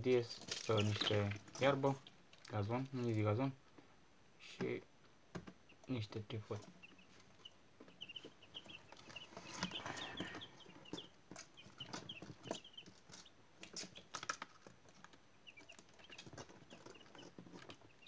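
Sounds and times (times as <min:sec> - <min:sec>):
chicks peeping: 0:00.1 - 0:18.0.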